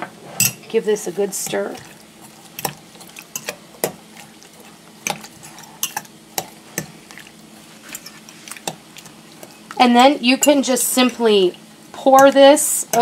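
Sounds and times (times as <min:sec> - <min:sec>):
spoon stirring liquid: 0:00.4 - 0:11.4.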